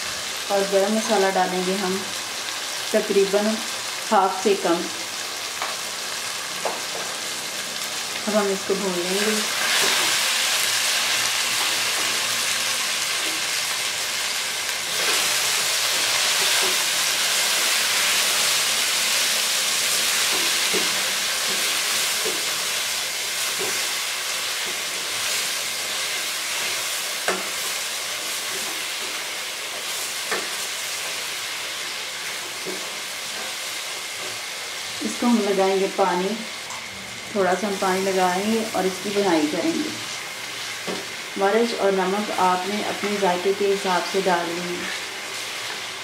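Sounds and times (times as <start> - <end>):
food sizzling in oil: 0.0 - 46.0.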